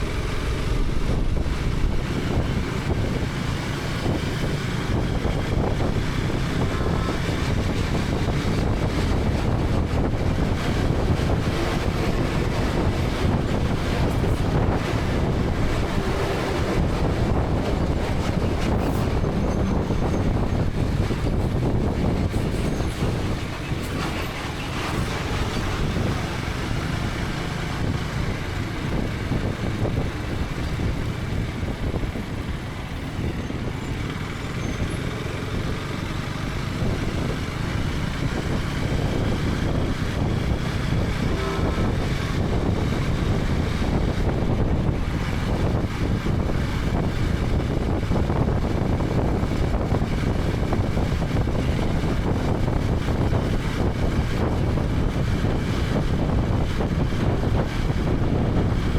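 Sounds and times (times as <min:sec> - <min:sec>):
wind and road noise: 0:00.0 - 0:58.9.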